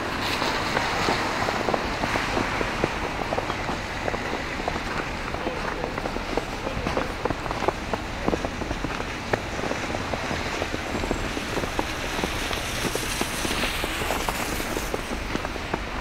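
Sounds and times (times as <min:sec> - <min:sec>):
bicycle tyres hissing on slush: 0:00.0 - 0:16.0
footsteps crunching through snow: 0:00.0 - 0:16.0.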